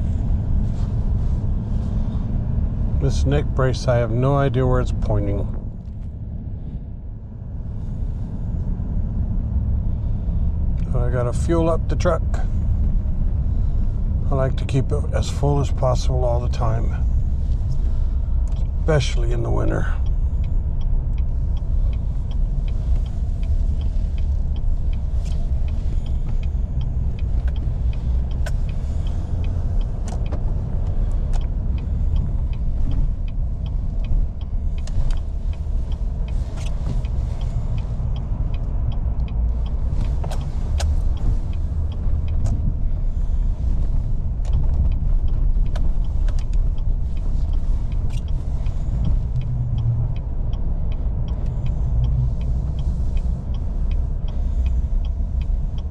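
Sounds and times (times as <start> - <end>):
truck engine and road rumble: 0.0 - 55.9.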